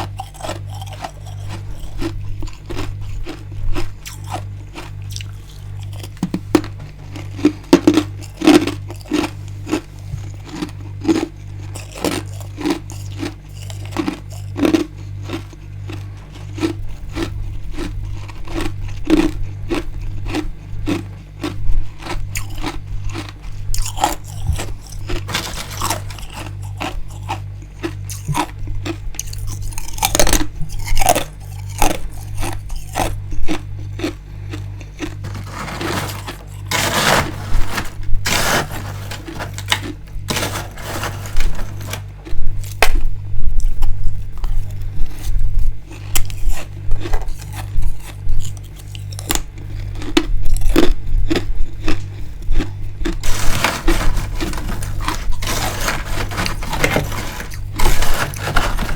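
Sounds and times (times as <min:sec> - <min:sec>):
ice being bitten and chewed: 0:00.0 - 0:58.9
low pulsing hum: 0:00.0 - 0:58.9.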